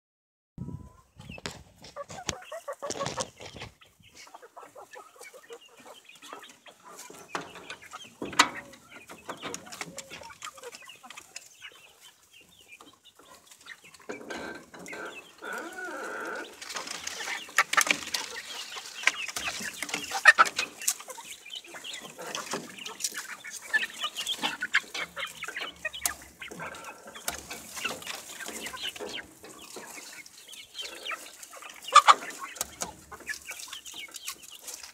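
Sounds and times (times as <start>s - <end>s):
chickens clucking: 0.6s - 34.9s.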